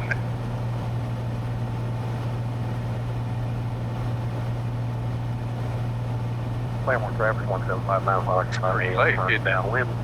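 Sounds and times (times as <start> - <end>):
airplane engine drone in flight: 0.0 - 10.0.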